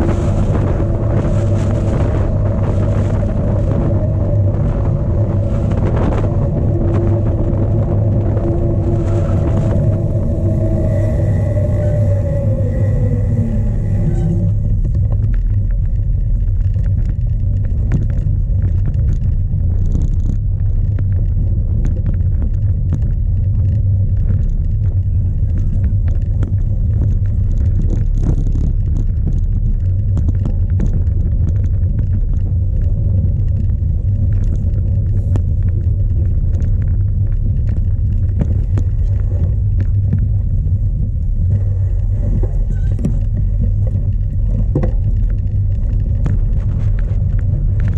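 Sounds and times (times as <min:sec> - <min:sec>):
bike rattling over rough ground: 0:00.0 - 0:47.9
wind buffeting microphone: 0:00.0 - 0:47.9.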